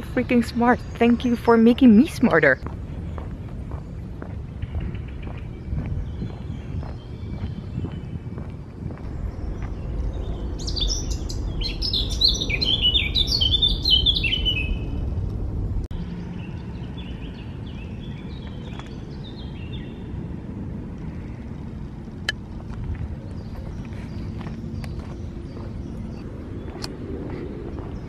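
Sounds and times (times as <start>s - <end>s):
songbirds singing: 0.0s - 15.2s, 15.9s - 28.0s
steady low rumble: 0.0s - 28.0s.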